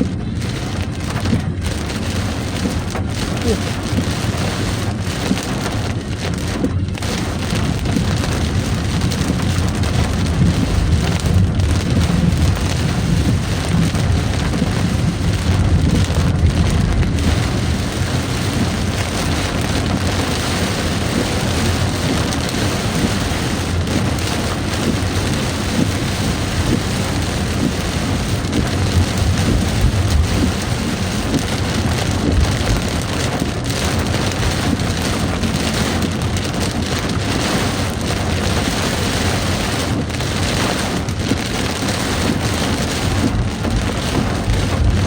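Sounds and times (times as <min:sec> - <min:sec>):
heavy rain falling: 0:00.0 - 0:45.0
low rumble: 0:00.0 - 0:45.0.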